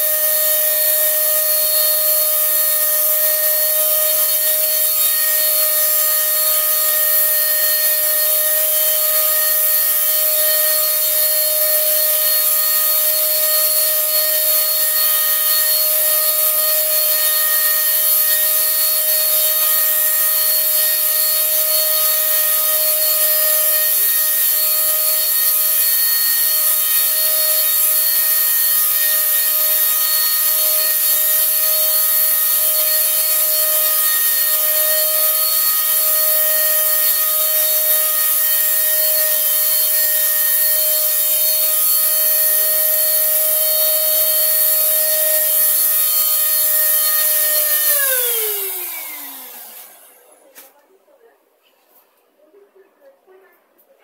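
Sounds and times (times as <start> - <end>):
motor whine: 0.0 - 50.4.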